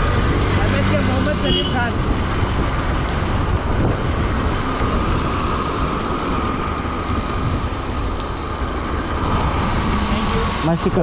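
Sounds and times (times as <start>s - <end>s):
road noise: 0.0s - 11.0s
wind rushing: 0.0s - 11.0s.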